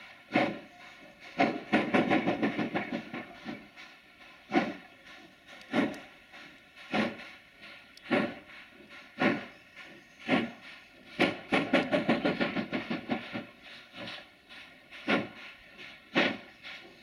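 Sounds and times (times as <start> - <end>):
steam locomotive exhaust beats: 0.0 - 17.0.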